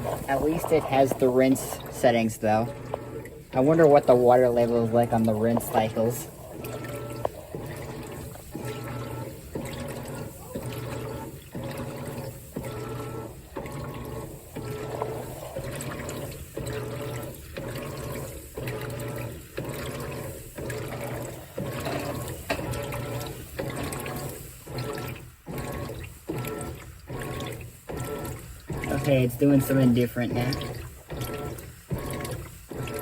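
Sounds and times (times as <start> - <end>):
washing machine agitating water: 0.0 - 33.0
washing machine motor hum: 0.0 - 33.0.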